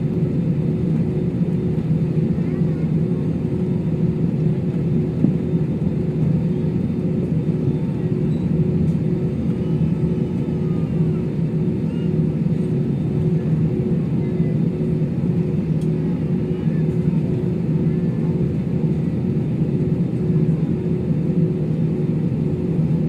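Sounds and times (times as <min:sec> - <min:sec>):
constant hum tone: 0:00.0 - 0:23.0
jet engines low rumble: 0:00.0 - 0:23.0.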